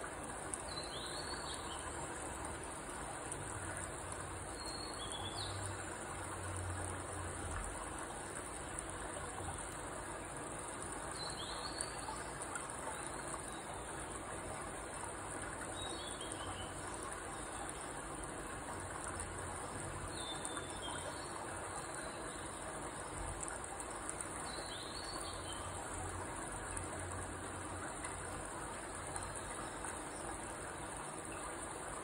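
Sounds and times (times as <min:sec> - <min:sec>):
constant hiss: 0:00.0 - 0:32.0.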